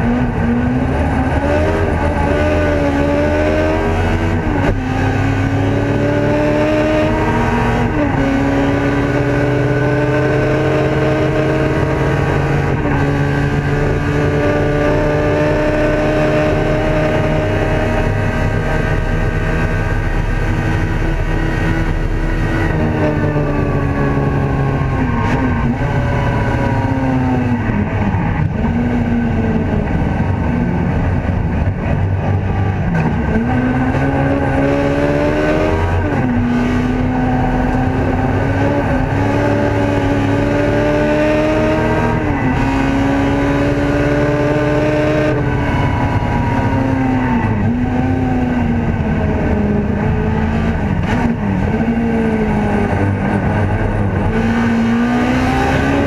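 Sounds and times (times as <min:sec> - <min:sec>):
race car engine revving through gears: 0:00.0 - 0:56.0.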